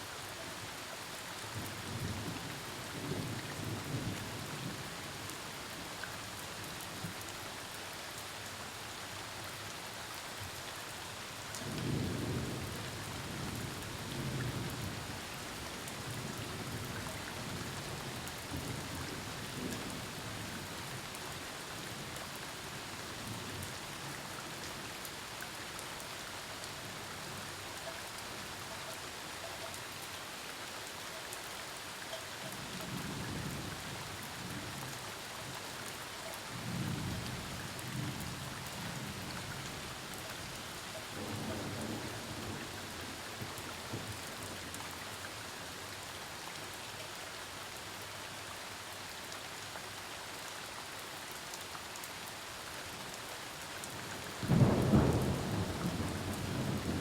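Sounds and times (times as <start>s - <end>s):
heavy rain falling: 0.1s - 50.1s, 50.8s - 57.0s.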